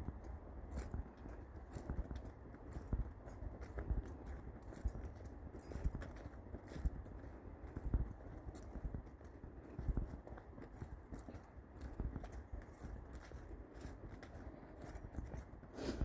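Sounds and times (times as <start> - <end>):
footsteps on a trail: 0.0 - 16.0.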